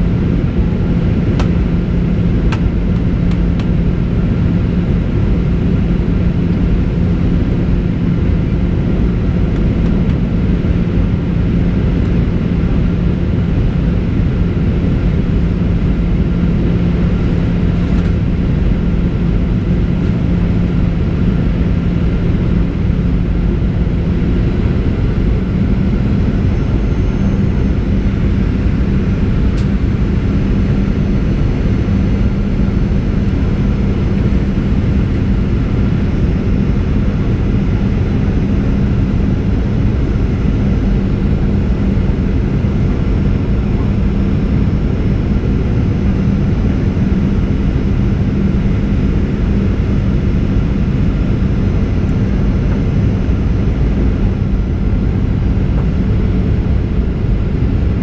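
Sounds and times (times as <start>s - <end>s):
airflow rushing in cabin: 0.0s - 58.0s
jet engines humming: 0.0s - 58.0s.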